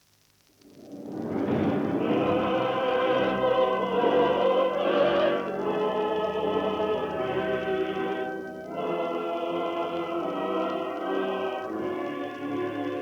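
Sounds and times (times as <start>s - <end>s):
choir singing with orchestra: 0.9s - 13.0s.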